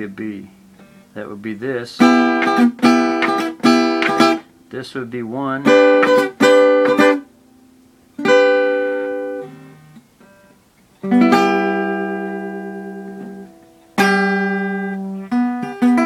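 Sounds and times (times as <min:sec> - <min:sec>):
acoustic guitar plucked: 0:00.0 - 0:16.0.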